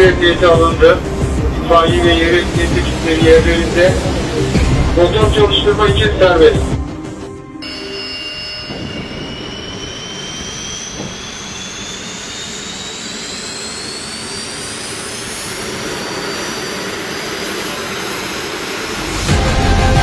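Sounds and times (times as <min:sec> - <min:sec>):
jet engine whine spooling up: 0:00.0 - 0:20.0.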